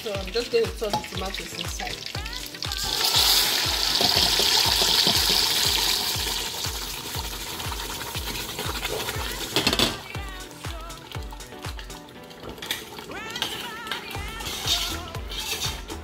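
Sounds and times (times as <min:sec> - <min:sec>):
tomatoes sizzling in hot oil: 0:00.0 - 0:16.0.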